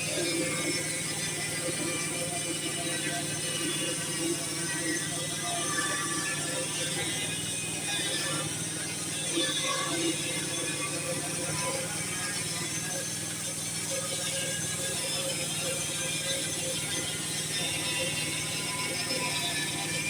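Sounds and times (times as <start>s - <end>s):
sawmill running: 0.0s - 20.0s.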